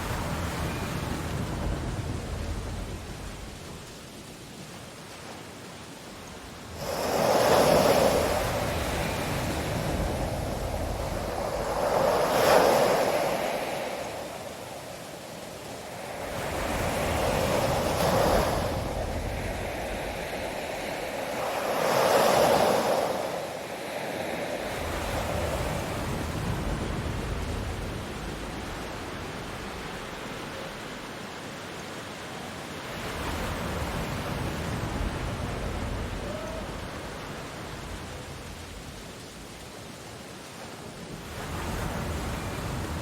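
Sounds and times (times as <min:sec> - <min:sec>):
ocean waves breaking on shore: 0:00.0 - 0:43.0.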